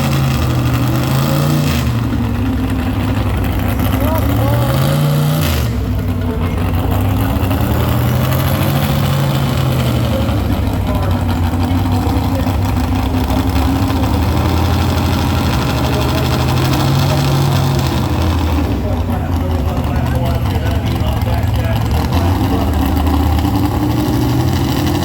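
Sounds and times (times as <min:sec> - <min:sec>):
large vehicle engine running: 0:00.0 - 0:25.0.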